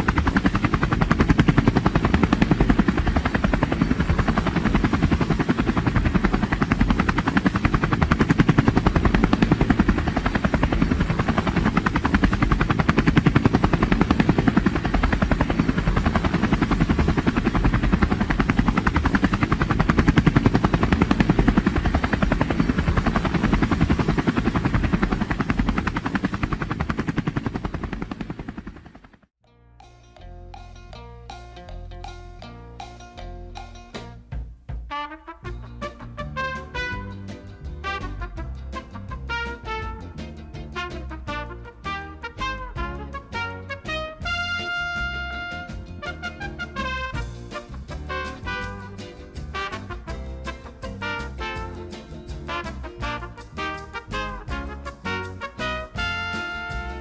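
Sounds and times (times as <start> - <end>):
aircraft rotor blades chopping: 0.0 - 29.3, 35.3 - 57.0.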